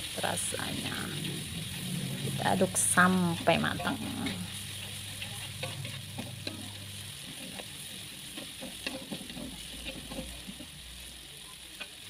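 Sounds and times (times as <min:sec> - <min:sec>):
paste sizzling in hot oil: 0:00.0 - 0:12.0
utensil scraping and tapping pan: 0:00.7 - 0:10.8.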